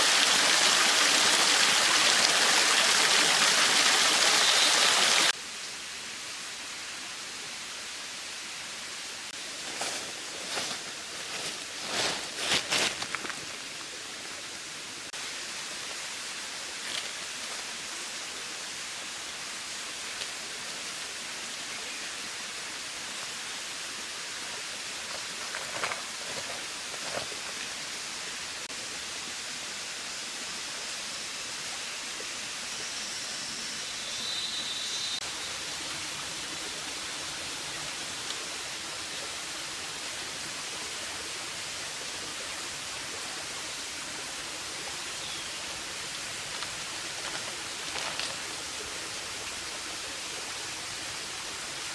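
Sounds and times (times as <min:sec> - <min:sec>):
mountain stream running: 0:00.0 - 0:05.4, 0:06.2 - 0:34.1, 0:35.2 - 0:51.9.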